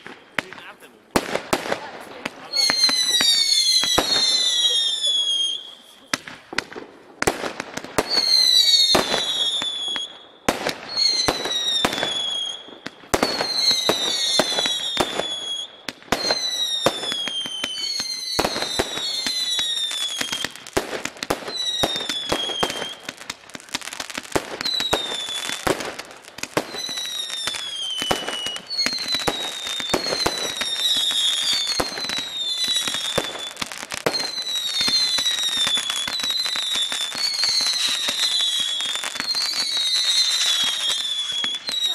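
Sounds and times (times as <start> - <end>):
firework bangs and cracks: 0.0 - 41.9
whistling firework shots: 0.0 - 41.9.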